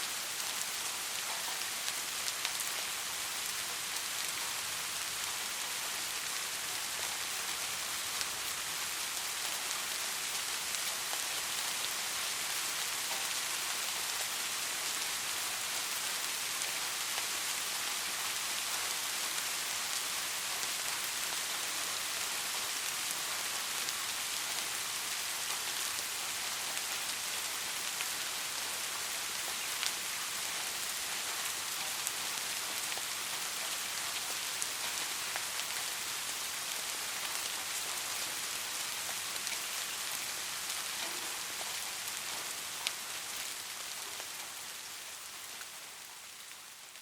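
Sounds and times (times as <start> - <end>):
soft rain hissing: 0.0 - 47.0.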